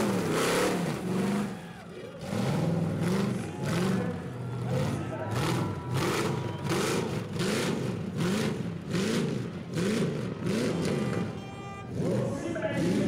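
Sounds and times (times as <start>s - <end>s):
car engine revving hard: 0.0s - 1.6s, 2.2s - 13.0s
exhaust blasts: 0.0s - 13.0s.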